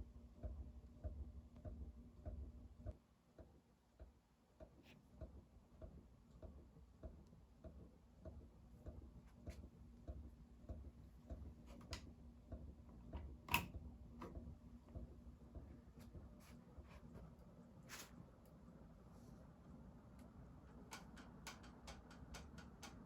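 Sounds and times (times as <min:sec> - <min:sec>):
ceiling fan motor hum: 0:00.0 - 0:23.0.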